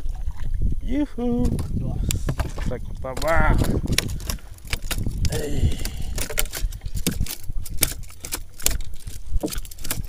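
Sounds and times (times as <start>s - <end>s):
fish flapping on wooden planks: 1.4s - 10.0s.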